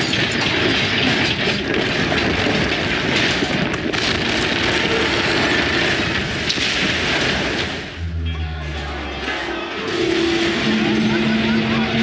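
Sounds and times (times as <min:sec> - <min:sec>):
building collapsing rumble: 0:00.4 - 0:12.0.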